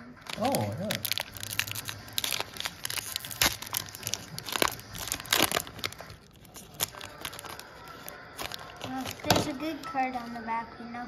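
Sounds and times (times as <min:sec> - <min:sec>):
foil wrapper tearing and crinkling: 0:00.2 - 0:10.0.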